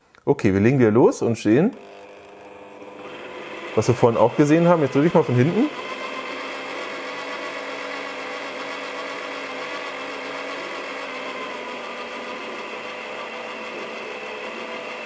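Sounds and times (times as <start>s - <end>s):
electric drill motor whine: 1.6s - 15.0s.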